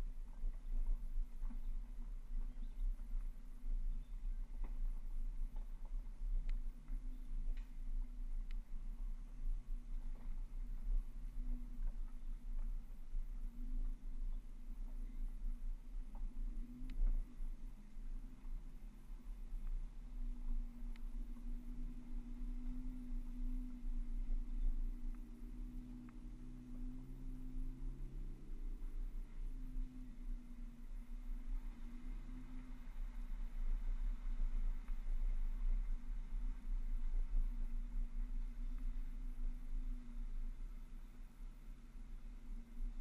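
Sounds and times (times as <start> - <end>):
muffled car engine rumble: 0.0 - 43.0.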